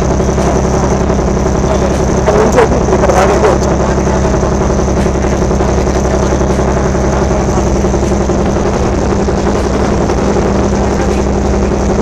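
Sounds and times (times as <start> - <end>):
boat engine drone: 0.0 - 12.0.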